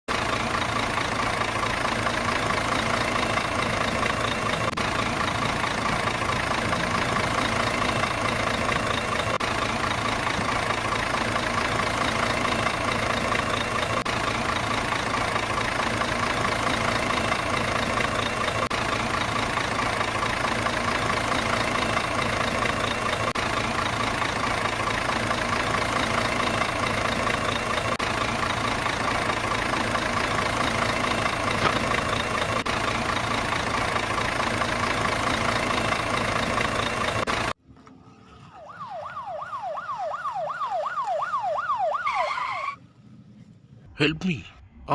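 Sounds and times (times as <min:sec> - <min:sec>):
truck engine idling: 0:00.1 - 0:44.9.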